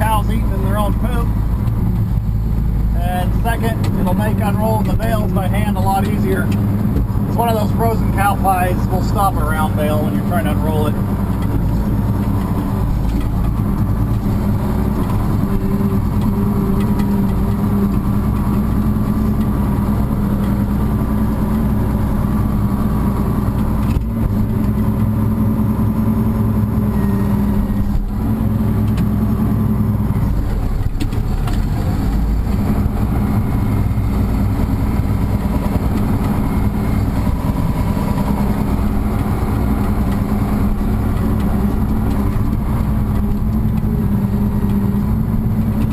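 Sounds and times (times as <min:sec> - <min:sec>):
tractor engine running: 0:00.0 - 0:45.9
tractor scraping frozen dung: 0:00.0 - 0:45.9.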